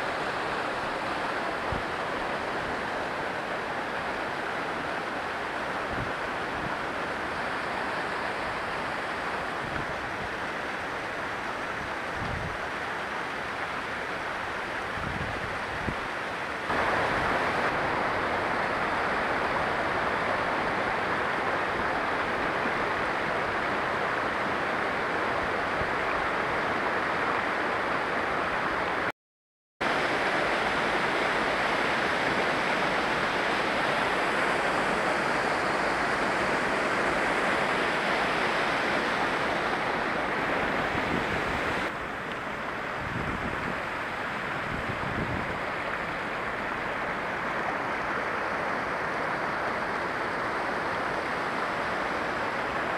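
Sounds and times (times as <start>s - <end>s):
low wind rumble on microphone: 0.0s - 29.1s, 29.9s - 52.9s
stream rushing over rocks: 0.0s - 29.1s, 29.8s - 52.9s.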